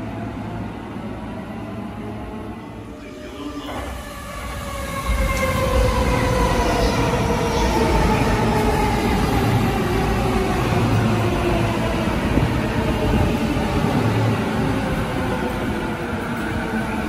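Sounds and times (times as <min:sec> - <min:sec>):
wheels rumbling on rail: 0:02.8 - 0:17.0.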